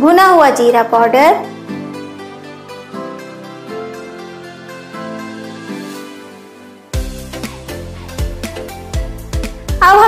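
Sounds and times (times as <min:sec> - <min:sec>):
background music with sustained chords: 0:00.0 - 0:10.0.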